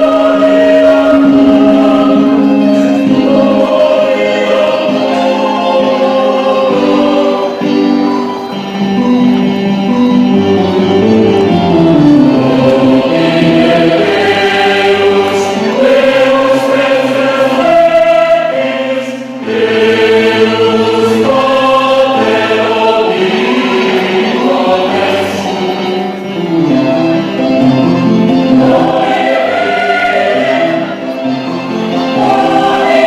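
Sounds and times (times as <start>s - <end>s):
choir singing in parts: 0.0s - 8.4s, 11.0s - 33.0s.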